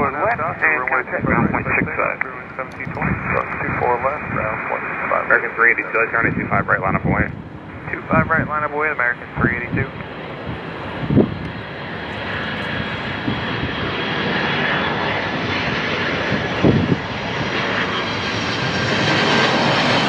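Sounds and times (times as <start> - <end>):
jet engines spooling up: 0.0 - 20.0.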